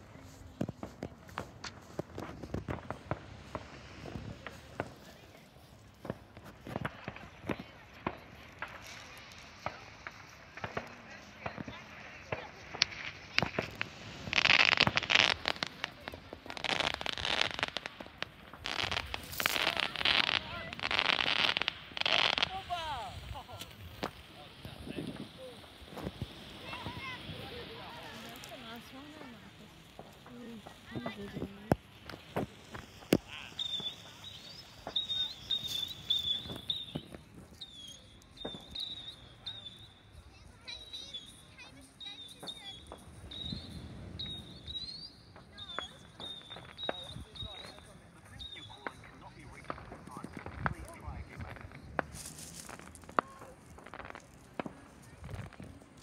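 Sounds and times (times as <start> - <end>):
fireworks crackling: 0.0 - 56.0.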